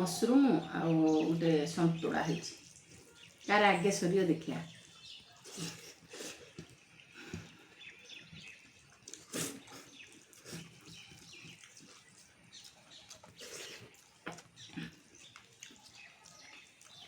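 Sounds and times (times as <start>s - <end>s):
wet chewing and lip-smacking: 0.6s - 3.9s, 4.6s - 17.0s.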